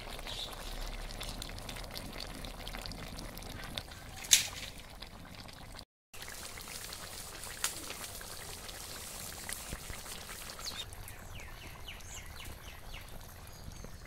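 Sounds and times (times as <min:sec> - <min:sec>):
curry bubbling in a wok: 0:00.0 - 0:14.0.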